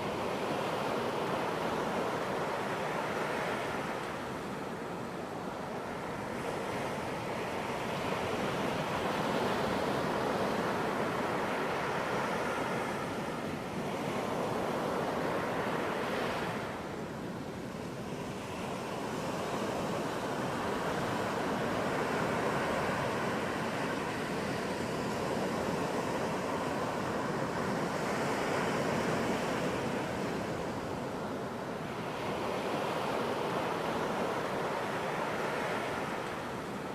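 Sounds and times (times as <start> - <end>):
ocean waves on beach: 0.0 - 36.9.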